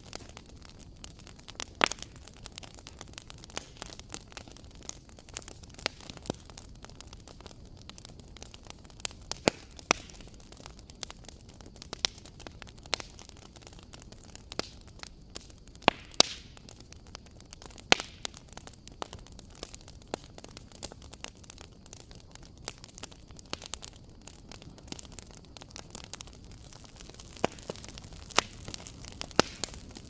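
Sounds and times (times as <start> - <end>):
soft steady hiss of fire: 0.0 - 30.0
wood fire popping and snapping: 0.0 - 30.0.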